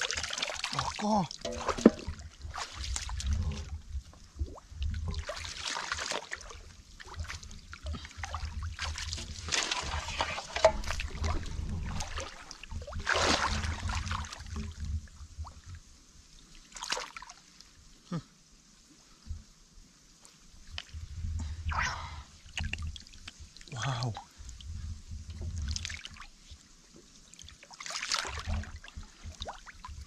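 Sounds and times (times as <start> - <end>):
shallow water sloshing and splashing: 0.0 - 17.7, 20.5 - 30.0.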